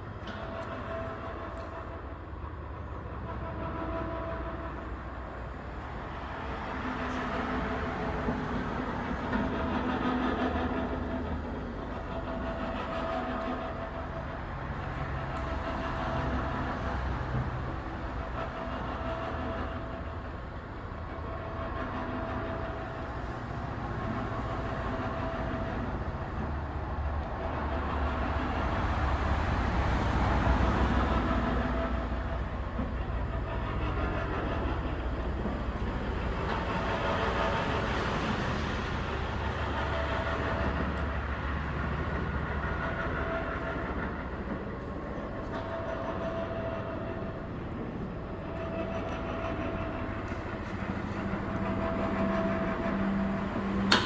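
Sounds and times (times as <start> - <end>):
machinery whining: 4.6 - 54.0.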